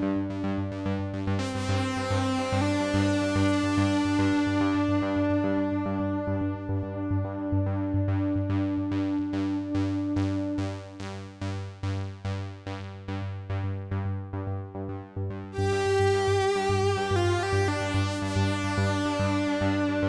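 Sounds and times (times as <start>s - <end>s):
held low synth notes: 0.0s - 20.0s
synthesizer arpeggio: 0.0s - 20.0s.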